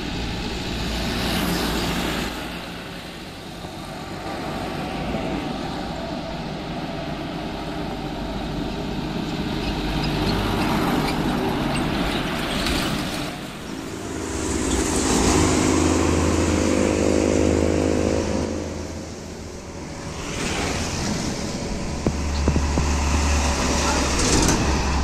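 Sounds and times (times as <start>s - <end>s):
diesel trucks passing: 0.0s - 25.0s.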